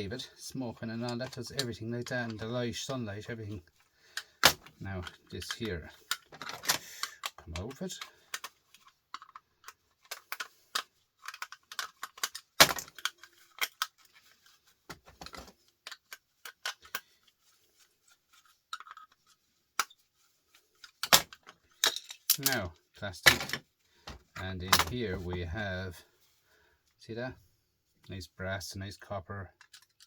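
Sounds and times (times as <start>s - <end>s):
plastic and metal parts clattering: 0.0s - 26.4s, 29.4s - 30.0s.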